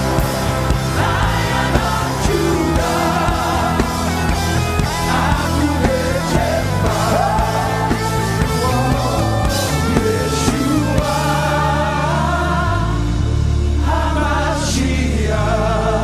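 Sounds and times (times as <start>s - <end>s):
drums: 0.0s - 16.0s
people singing: 0.0s - 16.0s
sustained bass notes: 0.0s - 16.0s.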